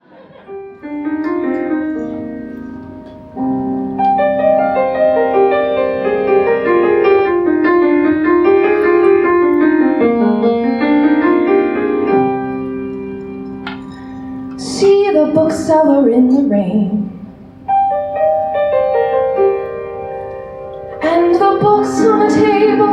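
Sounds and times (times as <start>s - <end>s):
slow piano music: 0.2s - 22.9s.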